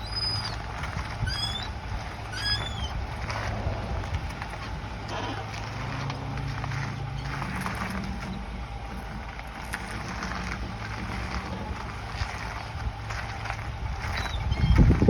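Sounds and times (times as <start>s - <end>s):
truck engine drone with hiss: 0.0s - 15.0s.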